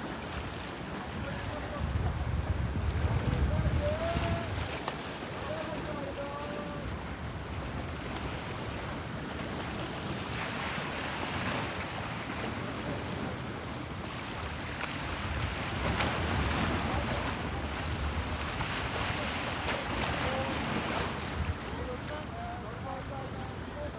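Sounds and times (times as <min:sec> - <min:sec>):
waves washing against shore: 0:00.0 - 0:23.9
wind on microphone: 0:00.0 - 0:23.9.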